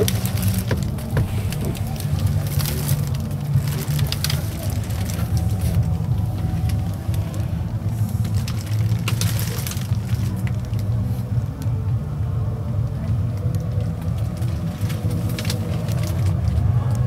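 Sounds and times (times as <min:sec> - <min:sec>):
diesel engine idling: 0:00.0 - 0:17.0
rustles and clicks: 0:00.0 - 0:17.0.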